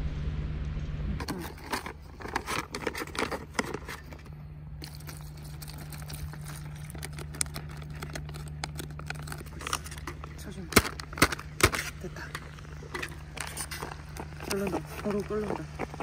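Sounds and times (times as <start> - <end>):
steady low hum: 0.0 - 16.0
plastic crinkling: 1.2 - 16.0.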